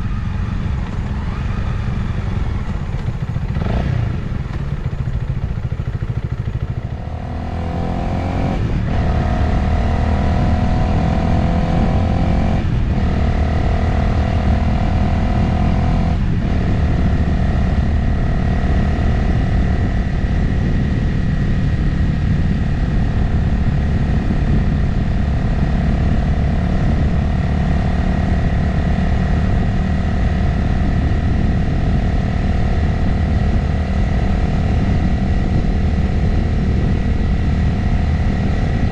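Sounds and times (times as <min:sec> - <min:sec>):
motorcycle engine accelerating: 0:00.0 - 0:38.9
road noise: 0:00.0 - 0:38.9.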